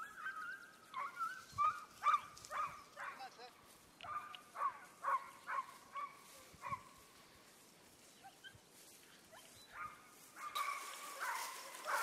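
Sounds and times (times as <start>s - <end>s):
dog barking faintly: 0.2s - 7.1s, 9.2s - 12.0s.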